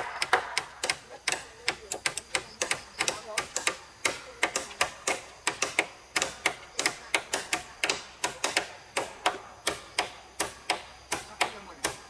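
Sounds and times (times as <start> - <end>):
hammers knocking: 0.0 - 12.0.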